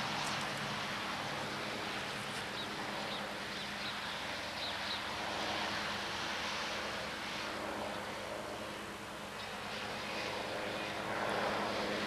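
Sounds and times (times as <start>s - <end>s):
distant helicopter drone: 0.0s - 12.0s.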